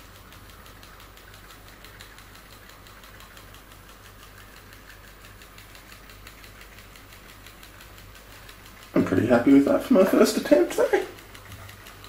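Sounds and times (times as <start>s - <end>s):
pop-pop boat ticking: 0.0s - 12.0s.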